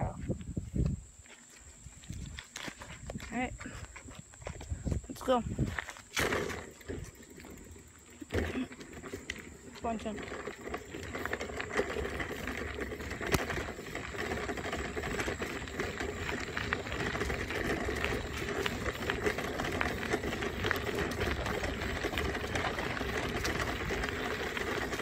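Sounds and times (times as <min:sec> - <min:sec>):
bicycle rattling on a trail: 0:00.1 - 0:25.0.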